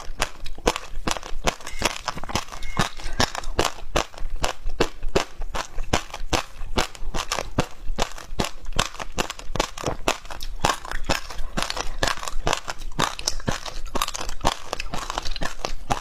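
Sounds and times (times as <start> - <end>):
ice being crunched and chewed: 0.0 - 16.0.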